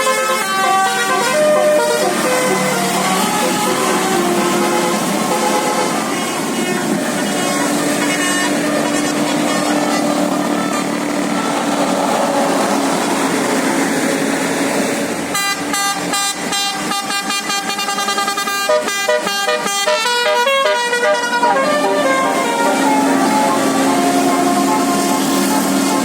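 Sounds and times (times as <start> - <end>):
musical horn melody: 0.0 - 13.6, 15.3 - 26.0
bus engine running: 0.0 - 26.0.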